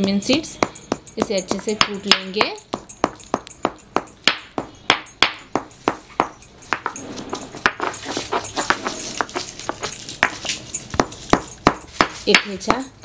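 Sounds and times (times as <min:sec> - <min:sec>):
pestle pounding in stone mortar: 0:00.0 - 0:13.0.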